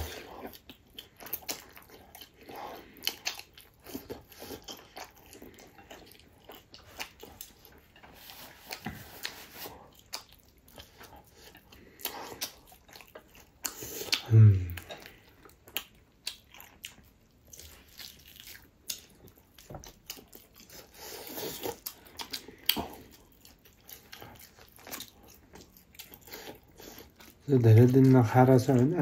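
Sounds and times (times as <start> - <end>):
chewing and biting food: 0.0 - 28.8.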